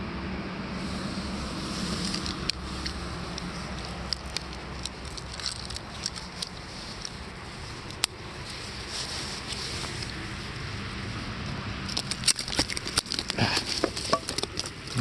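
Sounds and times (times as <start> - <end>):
small clicks and rustles: 1.7 - 15.0.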